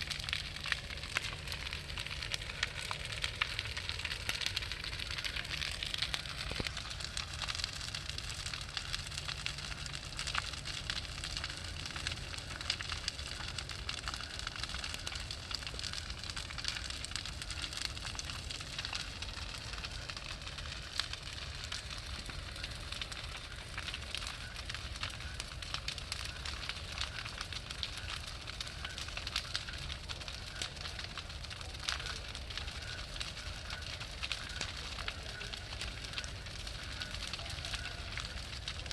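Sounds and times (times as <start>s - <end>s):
bonfire crackling and popping: 0.0s - 38.9s
low fire rumble: 0.0s - 38.9s.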